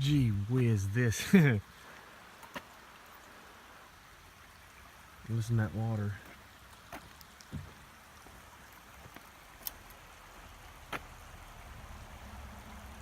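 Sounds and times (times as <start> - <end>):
faint running water: 0.0 - 13.0.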